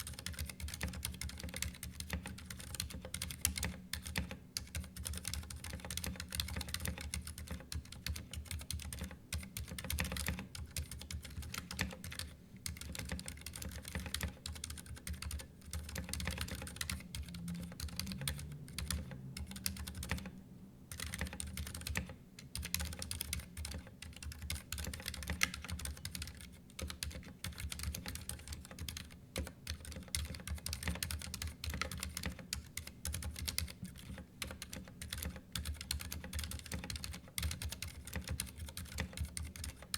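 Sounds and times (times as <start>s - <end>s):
mechanical keyboard typing: 0.0s - 20.3s, 20.9s - 39.9s.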